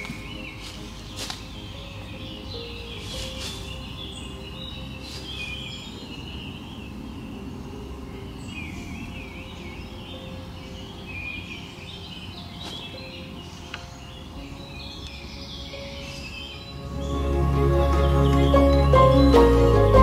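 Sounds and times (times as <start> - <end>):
songbirds singing and chirping: 0.0 - 20.0.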